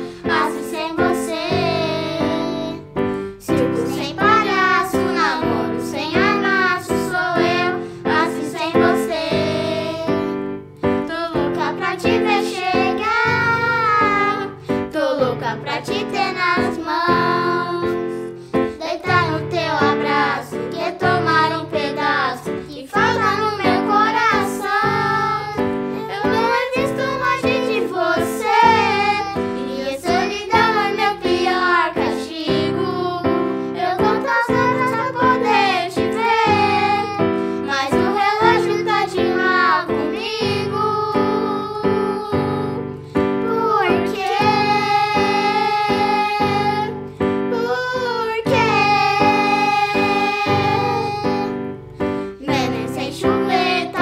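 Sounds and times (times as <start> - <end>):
girls singing pop song: 0.0 - 54.0.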